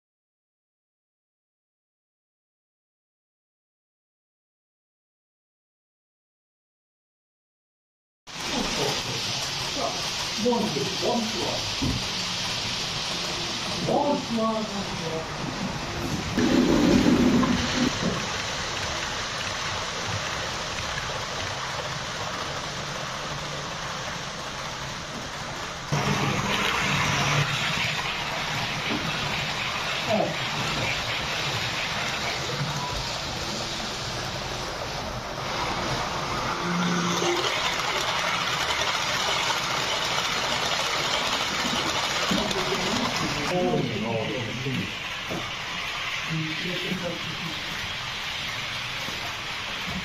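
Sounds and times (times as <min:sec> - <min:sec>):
model train wheels rumbling: 0:08.4 - 0:50.0.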